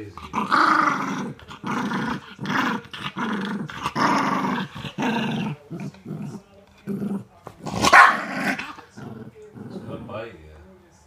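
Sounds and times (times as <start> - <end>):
small dog growling: 0.0 - 10.3.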